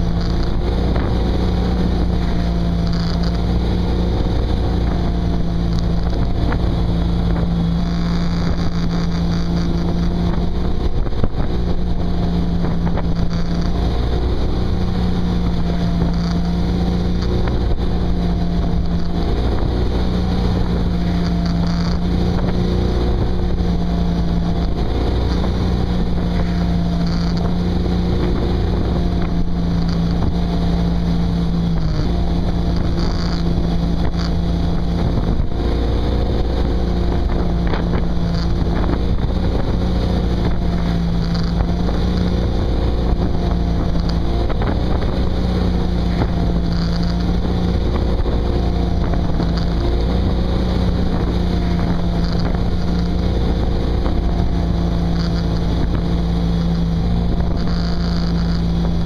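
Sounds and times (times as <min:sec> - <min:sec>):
boat engine running: 0:00.0 - 0:59.0
rush of boat wake: 0:00.0 - 0:59.0
wind buffeting microphone: 0:00.0 - 0:59.0.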